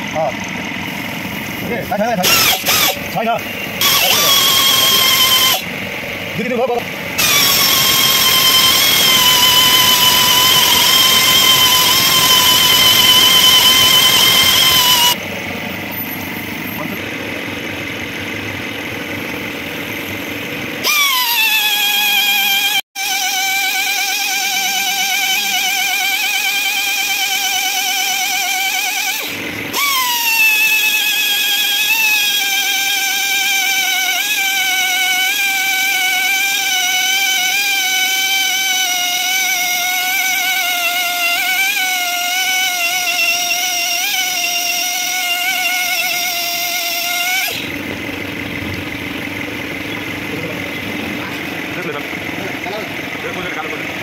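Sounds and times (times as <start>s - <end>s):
die grinder whining: 0.0s - 54.0s.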